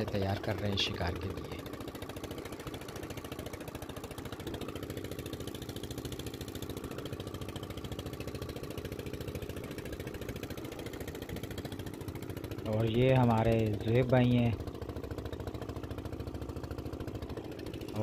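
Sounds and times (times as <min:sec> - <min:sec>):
boat engine chugging: 0:00.0 - 0:18.0.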